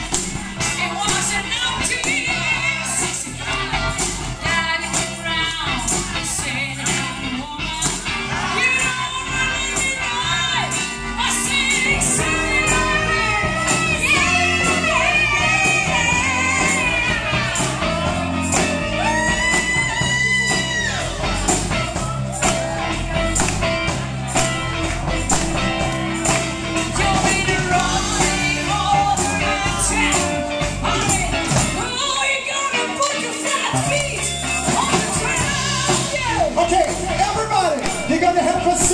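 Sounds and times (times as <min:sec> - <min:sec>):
electric bass: 0:00.0 - 0:32.4, 0:33.7 - 0:38.9
voices singing together: 0:00.0 - 0:36.9
drum kit beat: 0:00.0 - 0:38.9
electric guitar: 0:00.0 - 0:38.9.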